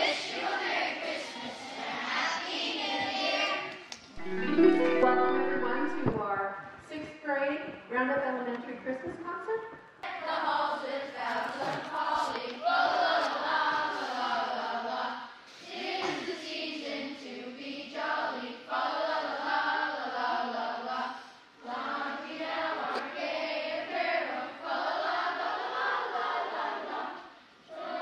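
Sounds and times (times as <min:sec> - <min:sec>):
children's choir singing: 0:00.0 - 0:06.2, 0:10.2 - 0:28.0.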